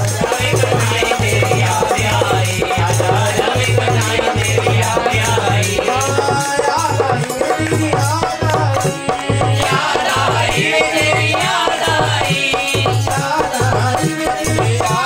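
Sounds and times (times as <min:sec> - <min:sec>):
harmonium: 0:00.0 - 0:15.0
man singing: 0:00.0 - 0:15.0
shaken percussion: 0:00.0 - 0:15.0.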